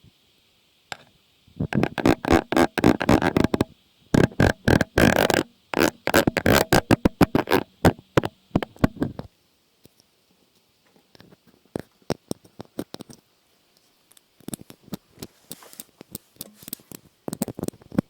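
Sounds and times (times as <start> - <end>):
clicks and crackles: 0.9 - 10.1, 11.0 - 18.0.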